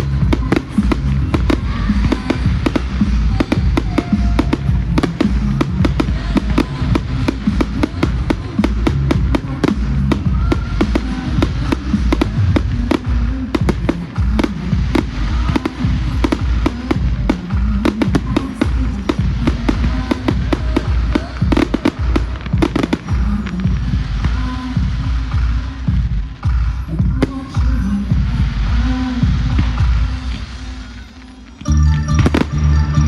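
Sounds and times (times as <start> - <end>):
continuous low rumble: 0.0 - 30.6
fireworks bangs and crackles: 0.0 - 33.0
music playing: 0.0 - 33.0.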